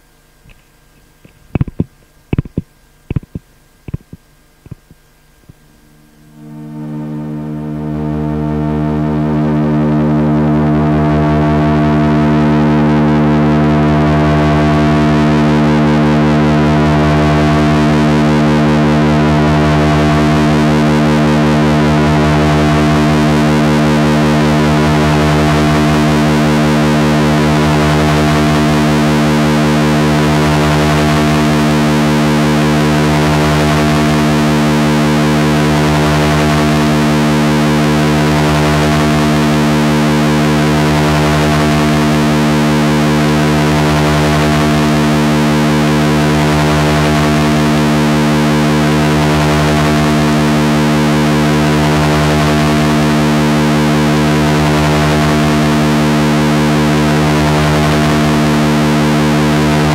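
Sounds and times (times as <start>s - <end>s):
distorted hiss: 0.0s - 59.9s
distorted synthesizer drone: 0.5s - 5.0s, 6.2s - 59.9s.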